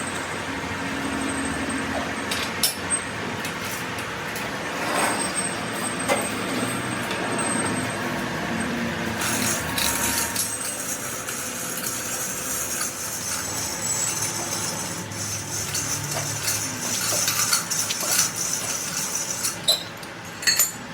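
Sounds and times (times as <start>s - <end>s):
steady mechanical noise: 0.0s - 20.9s.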